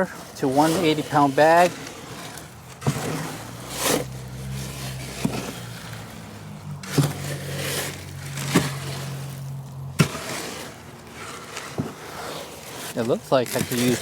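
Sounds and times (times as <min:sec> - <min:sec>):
tool scraping through wet concrete: 0:00.0 - 0:14.0.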